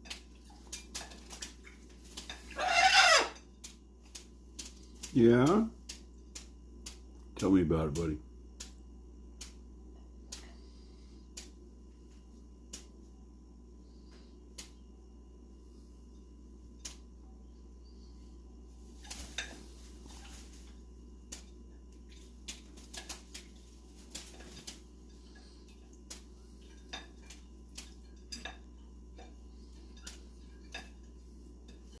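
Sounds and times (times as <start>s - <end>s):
steady low hum: 3.3s - 32.0s.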